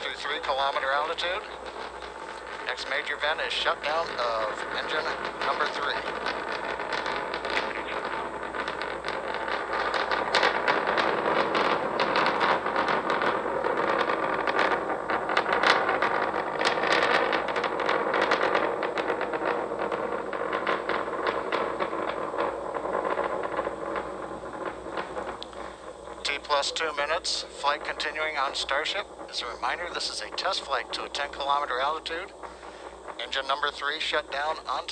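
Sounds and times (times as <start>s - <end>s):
rocket engines crackling: 0.0s - 34.9s.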